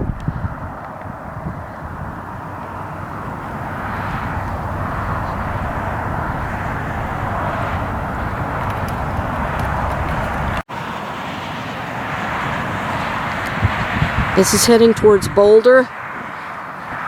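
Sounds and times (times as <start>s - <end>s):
outdoor rushing rumble: 0.0s - 16.1s.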